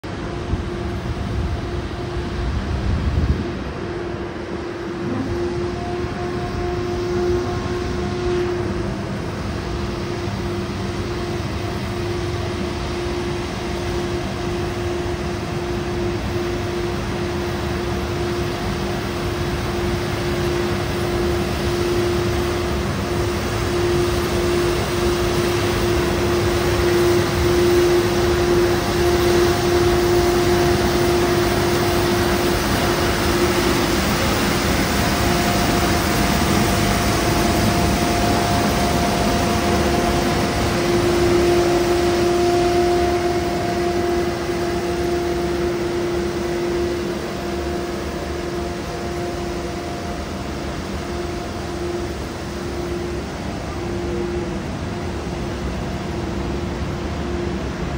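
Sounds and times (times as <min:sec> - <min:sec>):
road sweeper truck droning: 0:00.0 - 0:57.9.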